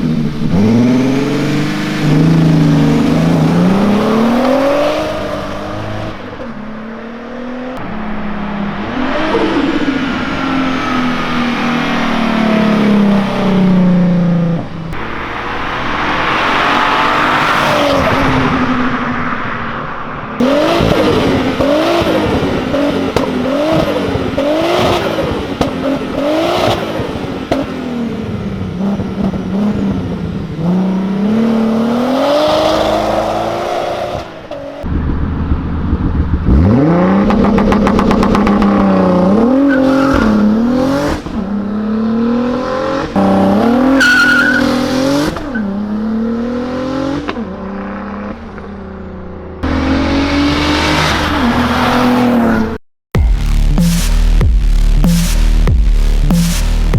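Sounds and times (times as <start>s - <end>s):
car accelerating through gears: 0.0s - 52.8s
car engine revving: 0.0s - 56.9s.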